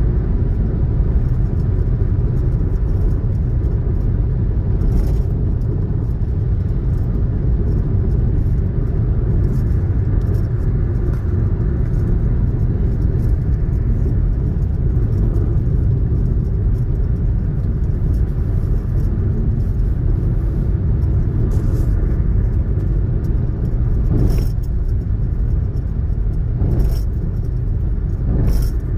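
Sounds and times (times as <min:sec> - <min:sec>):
road and tyre noise in car cabin: 0:00.0 - 0:28.9.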